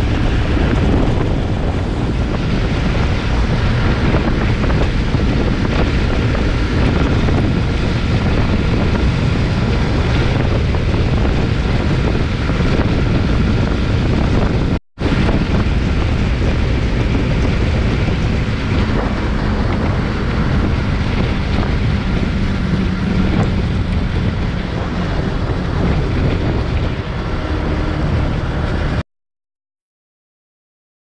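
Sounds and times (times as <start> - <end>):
motorcycle engine drone: 0.0 - 29.0
wind rushing over microphone: 0.0 - 29.0.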